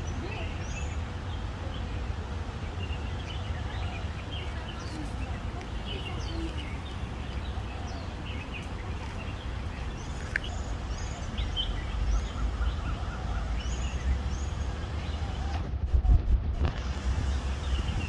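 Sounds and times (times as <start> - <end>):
birds chirping: 0.0 - 15.7, 16.6 - 18.0.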